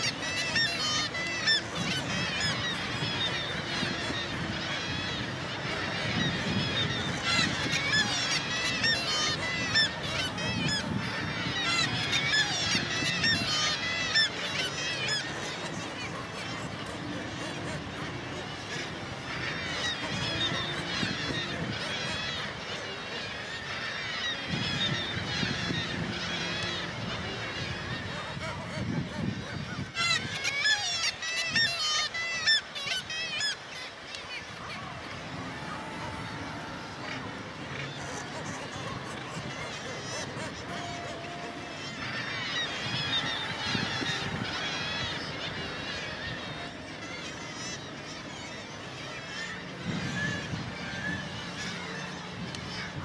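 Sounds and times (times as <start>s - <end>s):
seabirds calling: 0.0s - 53.0s.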